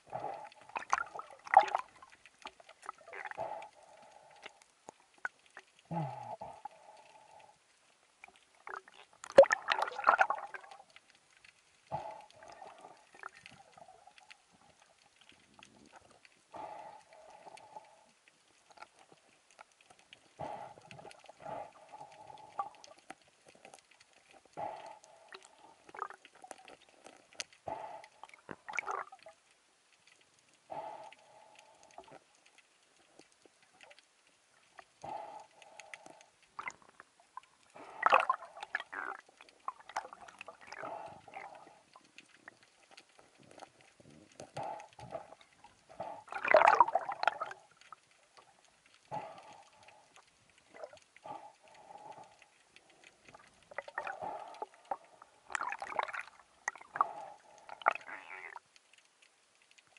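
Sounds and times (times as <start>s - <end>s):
water sloshing and gurgling: 0.0s - 59.9s.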